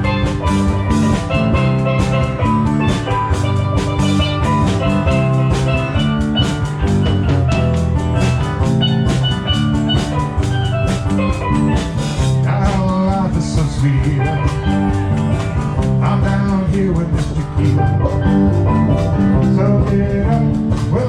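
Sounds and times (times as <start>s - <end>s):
bass guitar: 0.0s - 21.0s
drum kit beat: 0.0s - 21.0s
guitar: 0.0s - 21.0s
steel drums melody: 0.0s - 21.0s.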